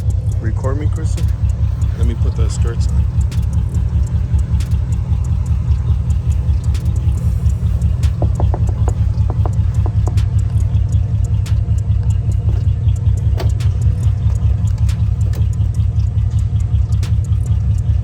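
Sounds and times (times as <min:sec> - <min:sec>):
car engine idling: 0:00.0 - 0:18.0
light clicks and knocks: 0:01.0 - 0:17.5.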